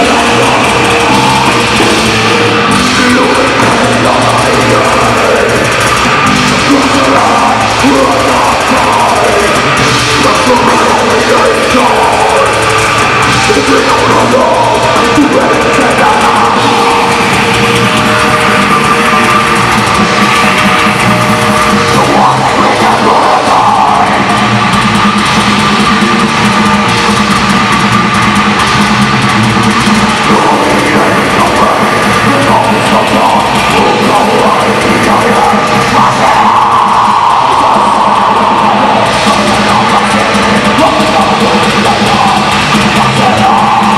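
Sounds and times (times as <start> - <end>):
drum kit: 0.0 - 43.9
electric guitars: 0.0 - 43.9.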